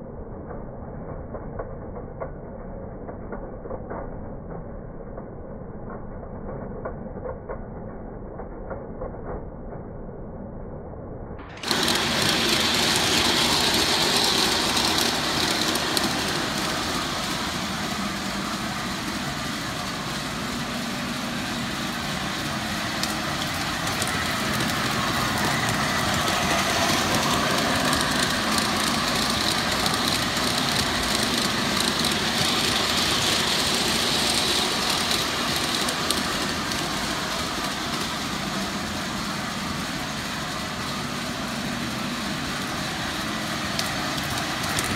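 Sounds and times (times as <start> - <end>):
model train rolling on metal track: 0.0 - 10.4, 11.4 - 44.9.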